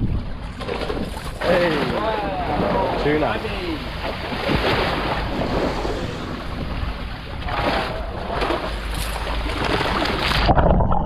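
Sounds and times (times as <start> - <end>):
sea water washing around boat: 0.0 - 10.6
wind buffeting microphone: 0.0 - 11.0.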